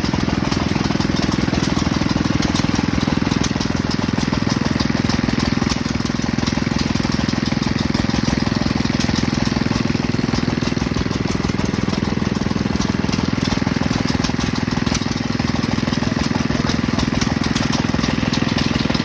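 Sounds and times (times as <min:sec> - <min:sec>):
stationary engines chugging: 0:00.0 - 0:19.0.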